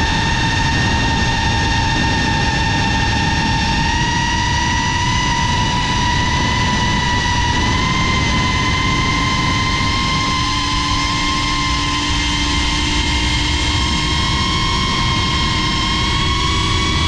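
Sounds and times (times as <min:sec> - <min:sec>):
drone motors whining: 0:00.0 - 0:17.0
low hum: 0:00.0 - 0:17.0
wind rumble on microphone: 0:00.0 - 0:17.0.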